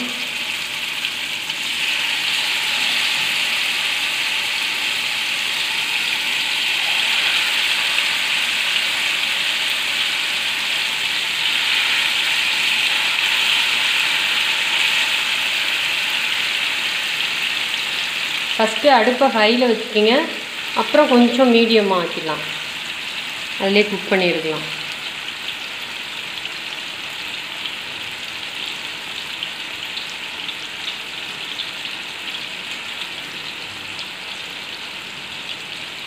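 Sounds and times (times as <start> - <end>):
fish sizzling in hot oil: 0.0 - 36.0.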